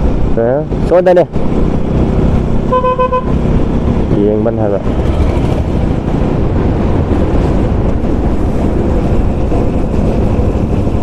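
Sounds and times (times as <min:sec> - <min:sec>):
motorcycle running: 0:00.0 - 0:11.0
wind buffeting microphone: 0:00.0 - 0:11.0.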